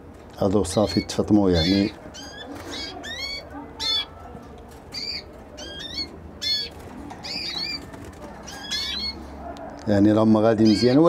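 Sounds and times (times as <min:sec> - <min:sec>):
canaries chirping: 0:00.4 - 0:11.0.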